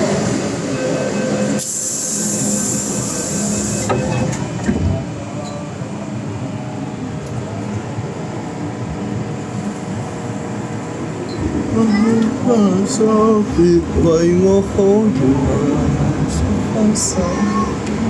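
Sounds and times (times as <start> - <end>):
metro train rumble: 0.0 - 18.0.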